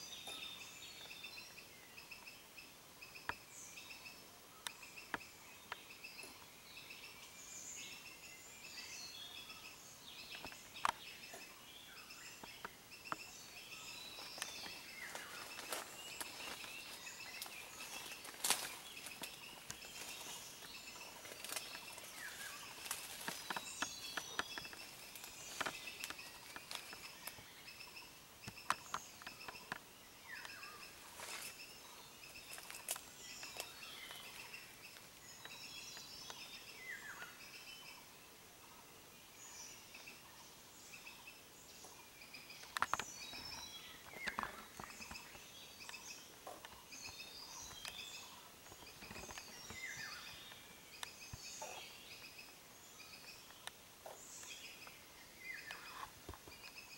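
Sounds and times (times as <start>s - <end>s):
falling bird calls: 0.0s - 38.2s, 39.6s - 56.9s
small birds chirping: 0.0s - 56.9s.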